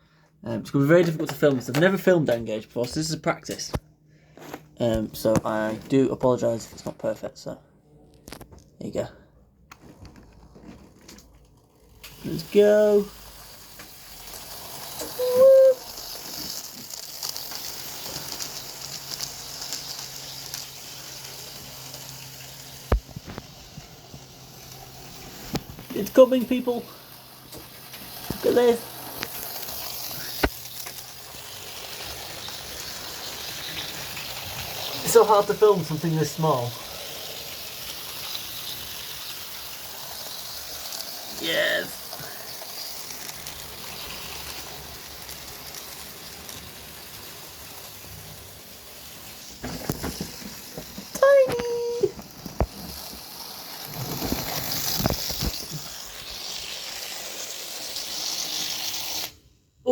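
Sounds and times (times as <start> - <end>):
model train motor whirring: 11.1 - 59.5.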